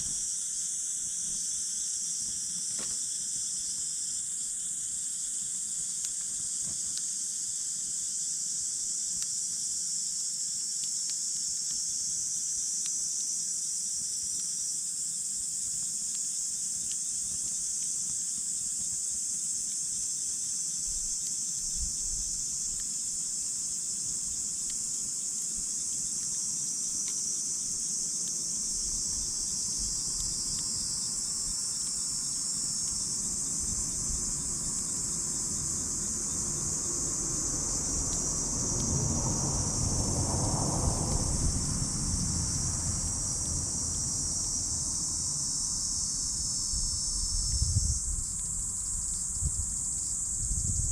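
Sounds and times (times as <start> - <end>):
insects chirping: 0.0 - 50.9.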